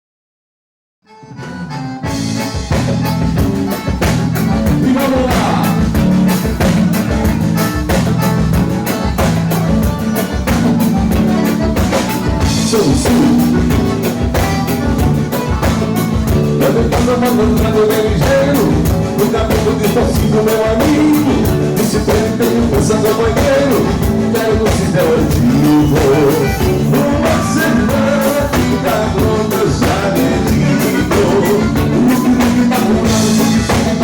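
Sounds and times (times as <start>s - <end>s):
live band playing dance music: 1.1s - 34.0s
drum kit beat: 1.6s - 34.0s.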